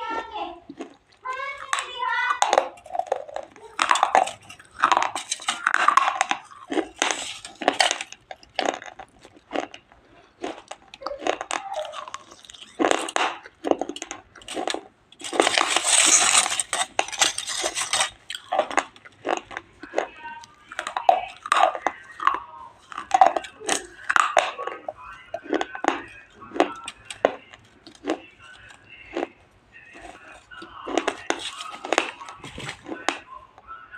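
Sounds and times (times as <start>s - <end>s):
crunchy food being chewed: 0.0s - 33.9s.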